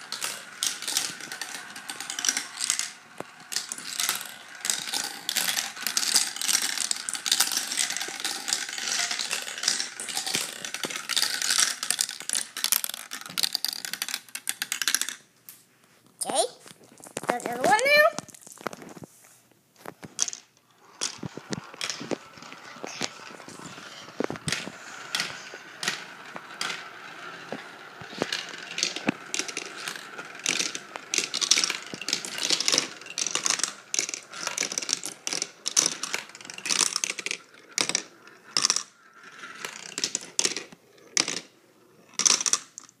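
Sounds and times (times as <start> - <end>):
marbles clicking on plastic tubes: 0.0 - 15.3, 20.1 - 43.0
marbles rolling whir: 0.0 - 15.3, 20.1 - 43.0.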